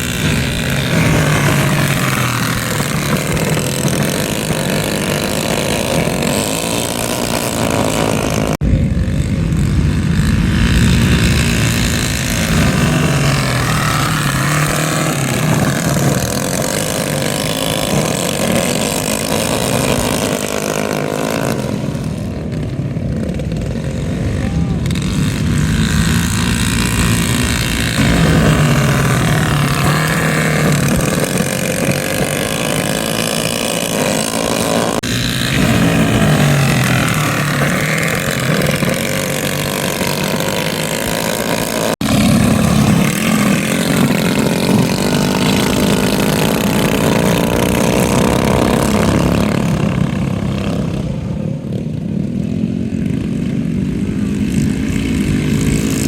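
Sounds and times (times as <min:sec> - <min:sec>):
mini bike engines revving: 0:00.0 - 0:56.0.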